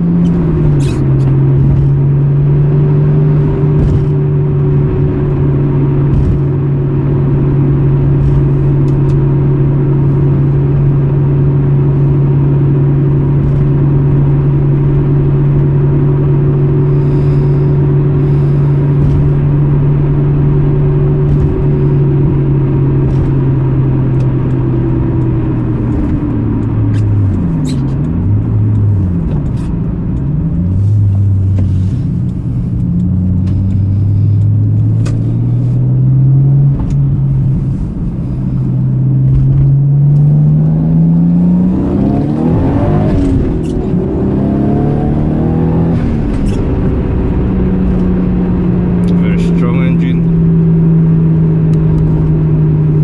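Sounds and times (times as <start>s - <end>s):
car engine from inside cabin: 0.0s - 53.0s.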